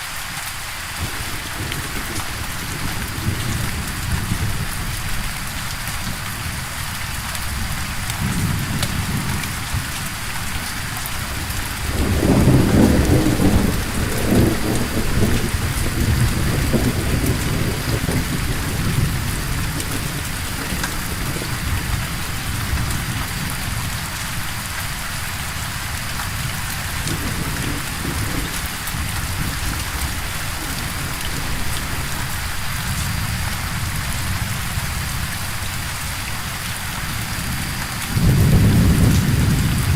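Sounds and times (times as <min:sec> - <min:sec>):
steady rain: 0:00.0 - 0:39.9
thunder rumbling: 0:01.0 - 0:39.9.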